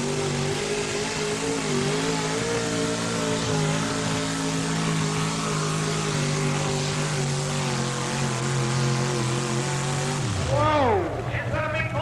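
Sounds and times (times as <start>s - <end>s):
truck engine at full throttle: 0.0s - 12.0s.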